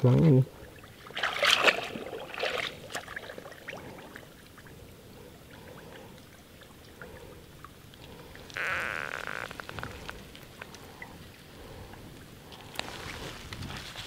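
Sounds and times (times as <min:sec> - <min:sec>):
water dripping and trickling: 0:00.0 - 0:13.9
small water splash: 0:00.5 - 0:14.0.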